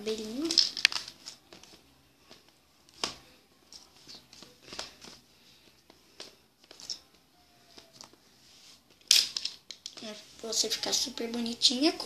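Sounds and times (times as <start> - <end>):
hands rustling doll hair: 0.0 - 12.0.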